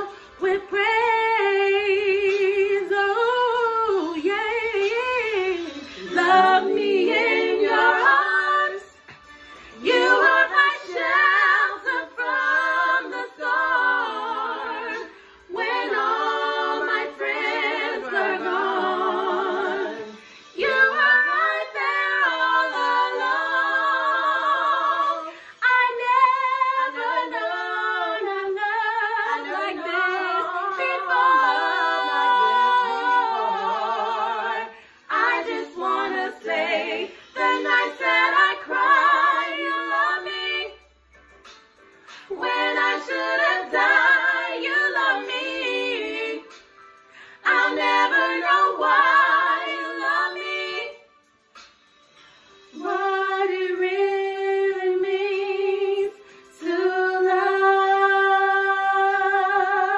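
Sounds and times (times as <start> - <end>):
women singing a cappella: 0.0 - 59.9.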